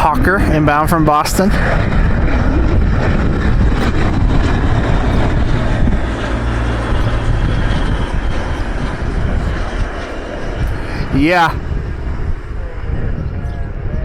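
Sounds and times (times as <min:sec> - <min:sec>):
high engine whine: 0:00.0 - 0:14.0
jet engines rumbling: 0:00.0 - 0:14.0.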